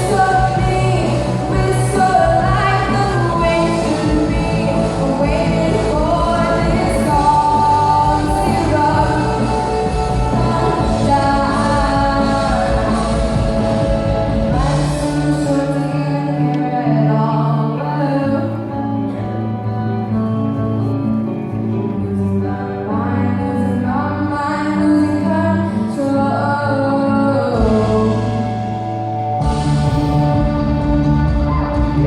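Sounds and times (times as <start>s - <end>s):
instrumental accompaniment chords: 0.0s - 32.0s
woman singing: 0.0s - 32.0s.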